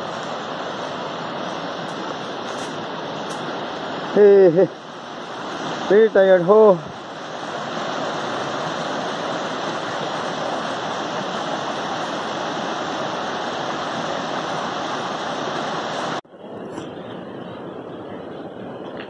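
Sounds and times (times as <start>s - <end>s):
stream rushing over rocks: 0.0s - 16.2s.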